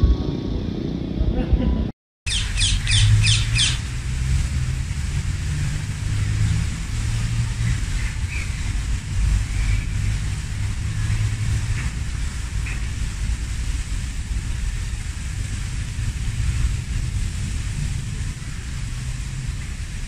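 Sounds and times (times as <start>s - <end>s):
low rumble: 0.0s - 20.0s
fountain spray hiss: 2.3s - 20.0s.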